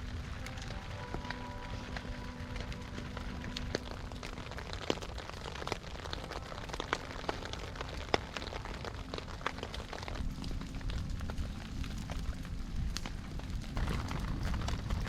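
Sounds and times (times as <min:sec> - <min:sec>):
campfire crackling and popping: 0:00.0 - 0:15.0
low steady rush: 0:00.0 - 0:15.0.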